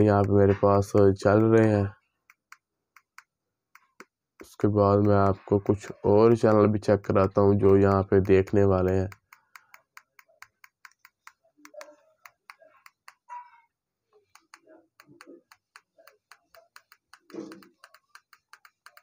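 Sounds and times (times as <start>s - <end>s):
remote control buttons clicking: 0.0s - 13.3s, 14.3s - 19.0s.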